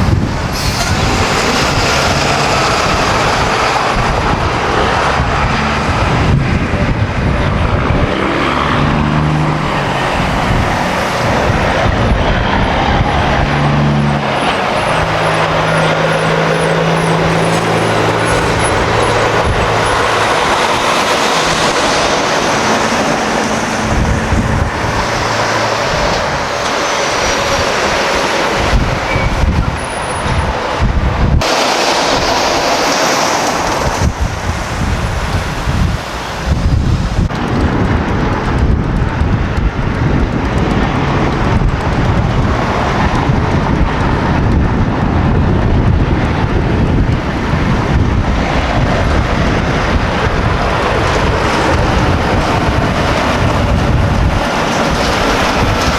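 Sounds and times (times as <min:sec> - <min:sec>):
diesel engines running: 0:00.0 - 0:55.9
trucks driving past: 0:00.0 - 0:55.9
tyre and traffic noise: 0:00.0 - 0:55.9.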